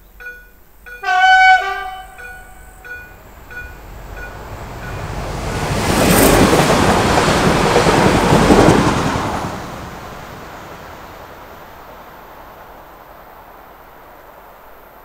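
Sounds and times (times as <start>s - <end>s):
train rushing past: 1.0s - 15.0s.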